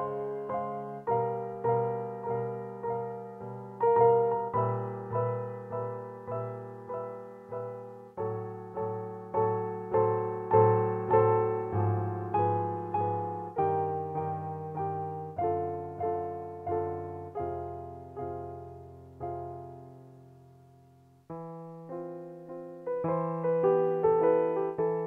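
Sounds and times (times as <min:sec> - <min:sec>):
digital piano chords: 0:00.0 - 0:25.0.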